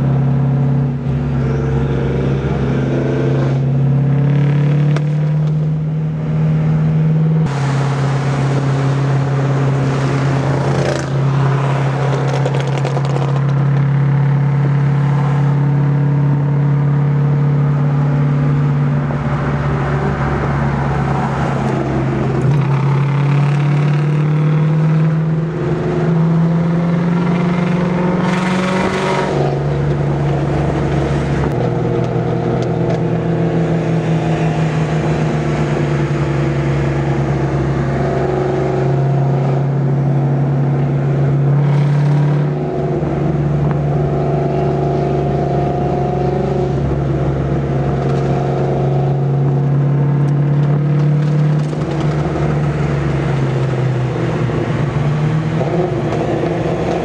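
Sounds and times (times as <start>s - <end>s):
car engine drone inside cabin: 0.0s - 57.0s.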